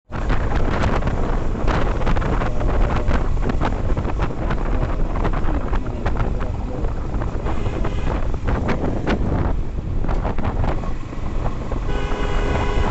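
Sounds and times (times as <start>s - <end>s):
wind buffeting microphone: 0.1s - 12.9s.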